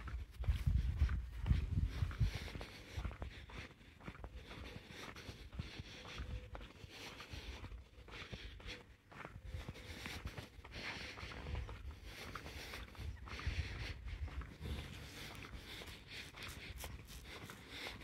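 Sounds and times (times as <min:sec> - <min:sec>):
footsteps on pavement: 0:00.0 - 0:18.0.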